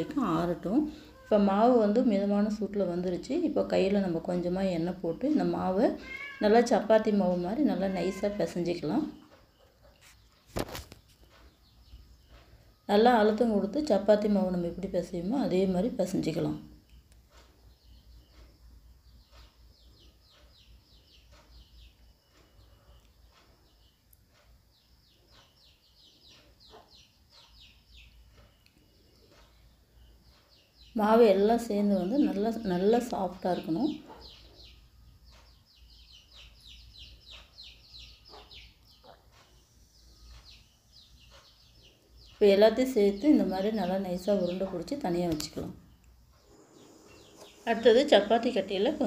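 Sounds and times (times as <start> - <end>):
faint bird chirping: 0.0 - 49.0.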